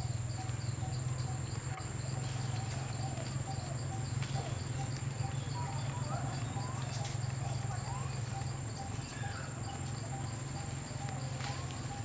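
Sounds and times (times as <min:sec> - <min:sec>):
bird calls: 0:00.0 - 0:12.0
high insect whine: 0:00.0 - 0:12.0
insect chirping: 0:00.0 - 0:12.0.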